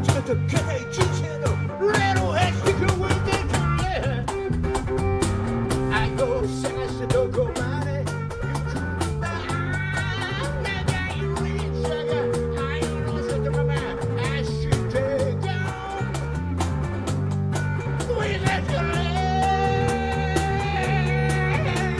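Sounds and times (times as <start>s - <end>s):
band playing instrumental: 0.0s - 21.9s
lead guitar bending notes: 0.0s - 21.9s.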